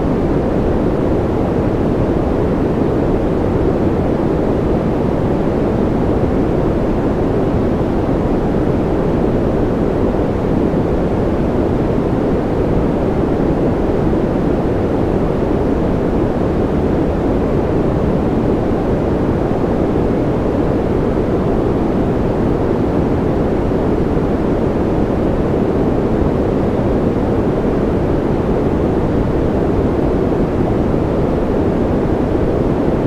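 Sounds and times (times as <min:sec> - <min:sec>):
deep muffled white noise: 0:00.0 - 0:33.0.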